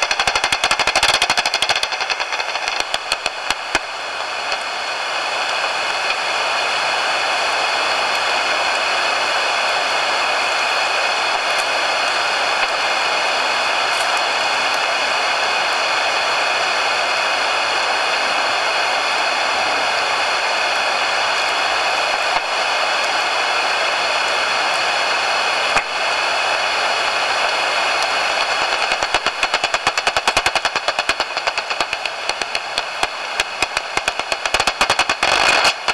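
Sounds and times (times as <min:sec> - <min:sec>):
static-like hiss: 0:00.0 - 0:35.9.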